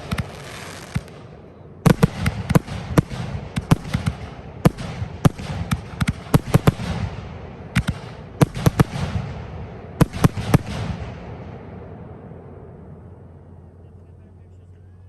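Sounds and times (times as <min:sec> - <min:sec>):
fireworks bangs: 0:00.0 - 0:13.7
fireworks crackling rumble: 0:00.0 - 0:15.0.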